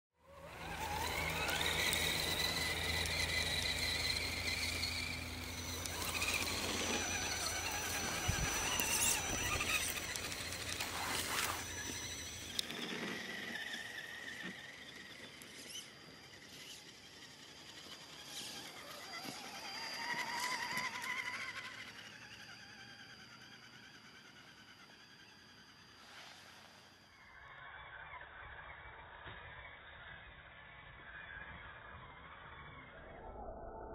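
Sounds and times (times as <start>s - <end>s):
toy car electric motor whining: 0.2s - 33.2s.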